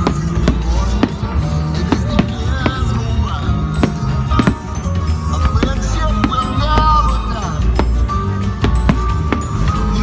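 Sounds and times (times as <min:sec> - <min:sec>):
loud music with heavy bass: 0:00.0 - 0:10.0.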